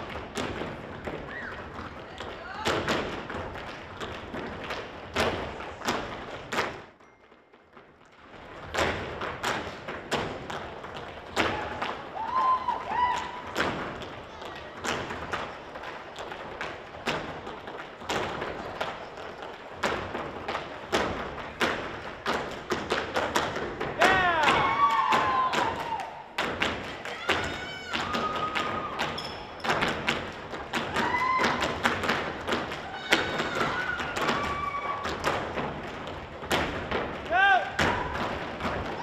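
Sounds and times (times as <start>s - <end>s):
dancers stomping on stage floor: 0.0s - 6.9s, 8.3s - 39.0s.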